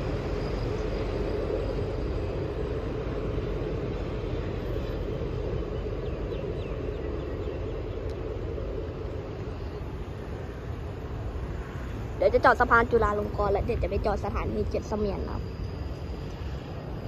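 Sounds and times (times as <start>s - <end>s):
passenger train rumbling on rails: 0.0s - 17.0s.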